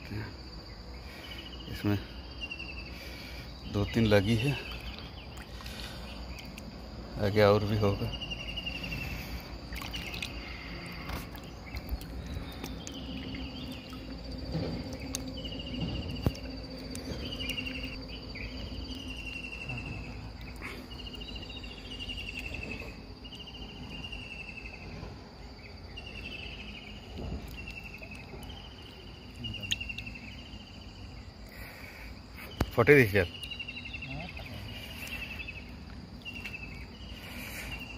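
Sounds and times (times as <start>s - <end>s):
insect chirps: 0.0s - 37.9s
insects buzzing: 0.0s - 37.9s.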